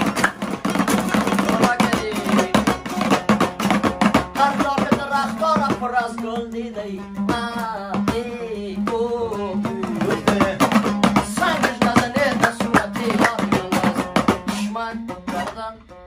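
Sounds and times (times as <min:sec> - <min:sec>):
hand drum strokes: 0:00.0 - 0:15.7
strummed lute: 0:00.0 - 0:16.0
man singing: 0:01.0 - 0:16.0.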